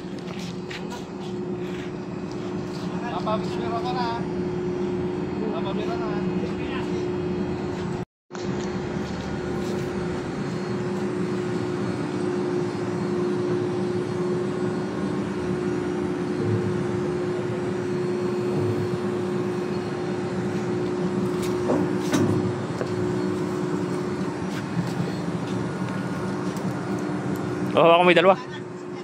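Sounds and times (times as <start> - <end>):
deck machinery drone: 0.0 - 29.0.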